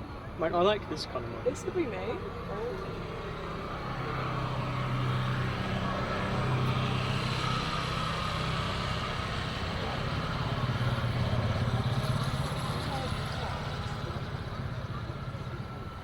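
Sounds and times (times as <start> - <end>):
vehicle engine running: 2.2 - 16.0.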